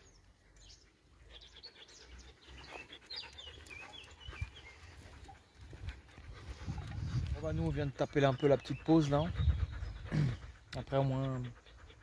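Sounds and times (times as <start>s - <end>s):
dog panting: 0.7s - 12.0s.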